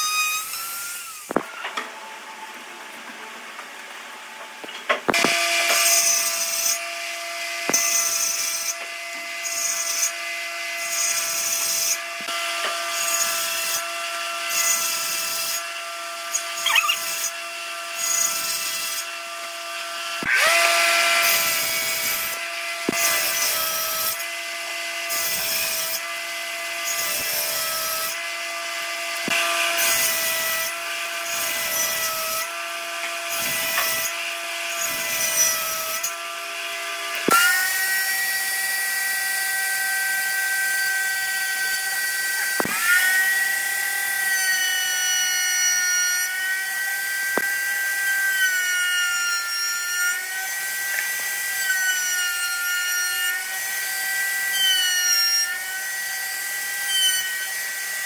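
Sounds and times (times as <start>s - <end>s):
woodworking power tool whining: 0.0s - 58.0s.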